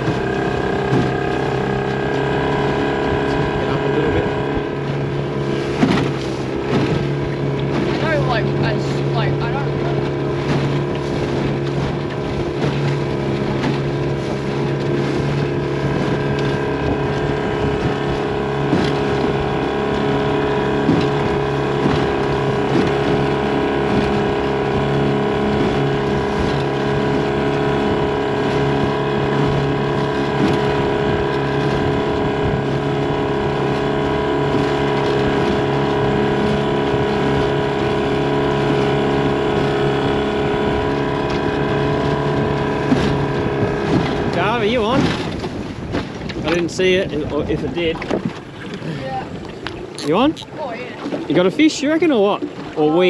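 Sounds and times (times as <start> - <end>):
wind noise: 0.0 - 51.4
outboard motor running: 0.0 - 53.0
water wash: 0.0 - 53.0.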